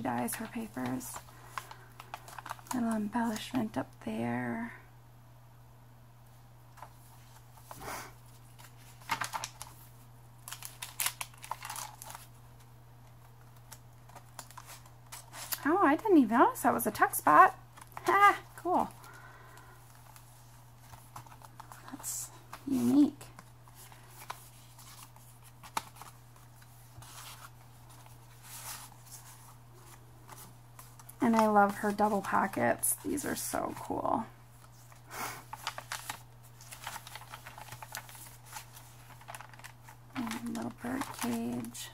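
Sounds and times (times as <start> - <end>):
paper pages rustling: 0.0 - 3.8, 6.8 - 15.6, 17.7 - 41.9.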